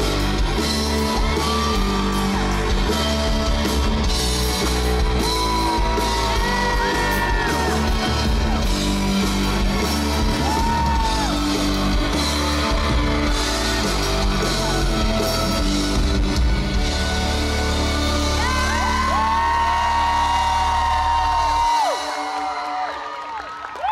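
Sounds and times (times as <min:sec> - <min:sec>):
live rock band playing: 0:00.0 - 0:22.3.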